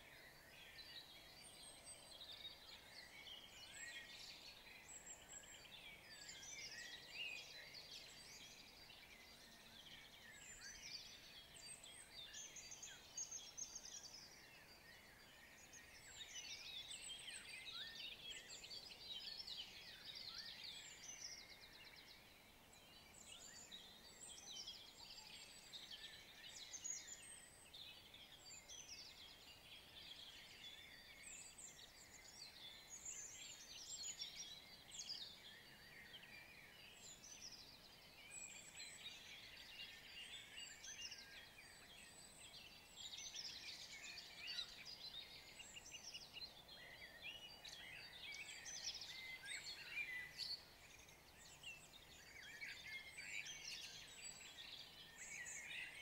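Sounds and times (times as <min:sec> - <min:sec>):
faint songbird chorus: 0:00.0 - 0:56.0.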